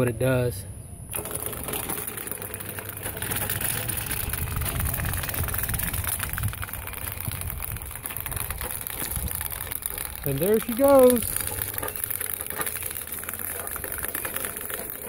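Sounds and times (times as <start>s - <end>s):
electric motors running: 1.1s - 15.0s
metal tracks rattling: 1.1s - 15.0s.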